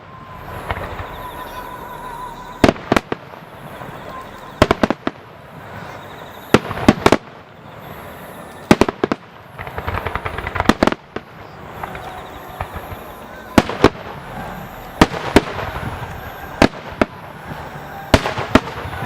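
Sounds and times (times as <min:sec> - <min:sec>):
fireworks crackling: 0:00.0 - 0:19.0
fireworks exploding: 0:00.0 - 0:19.0.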